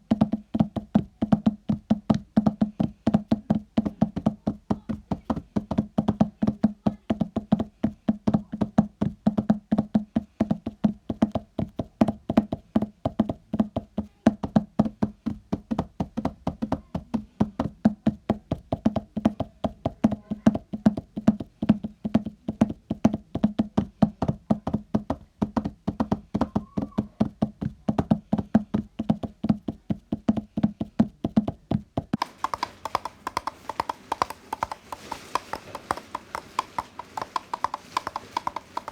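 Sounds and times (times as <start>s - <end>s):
imitation horse hooves galloping: 0.0s - 38.9s.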